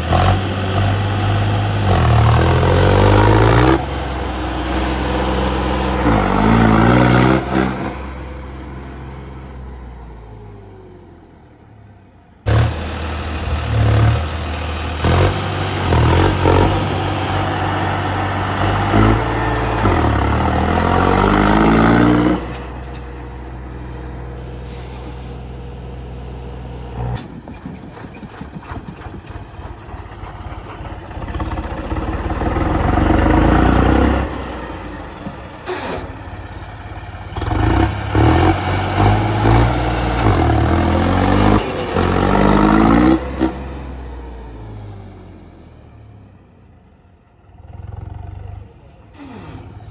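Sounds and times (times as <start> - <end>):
tractor diesel engine revving: 0.0 - 46.8.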